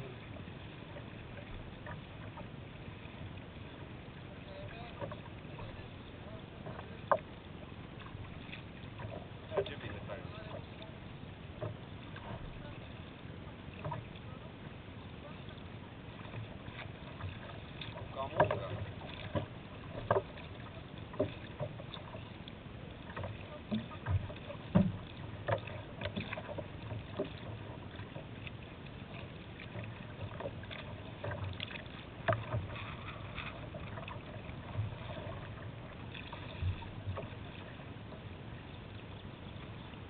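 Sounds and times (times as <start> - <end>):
paddle splashes and knocks: 0.0 - 40.0
water rushing against kayak hull: 0.0 - 40.0.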